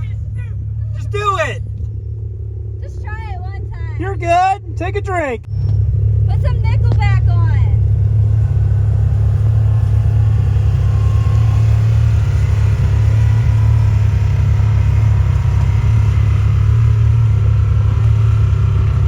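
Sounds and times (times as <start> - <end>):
utility vehicle engine running: 0.0 - 19.0.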